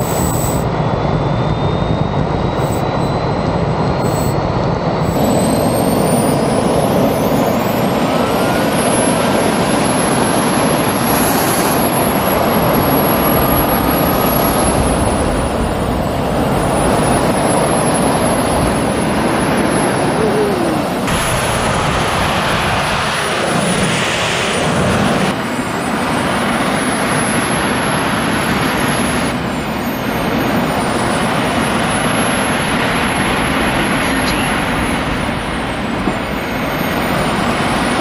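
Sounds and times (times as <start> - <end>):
high turbine whines: 0.0 - 38.0
jet engines roaring: 0.0 - 38.0.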